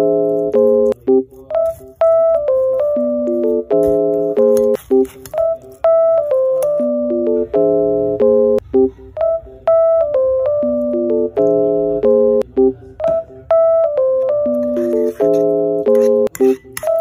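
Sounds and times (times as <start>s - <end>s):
light keyboard tune: 0.0s - 17.0s.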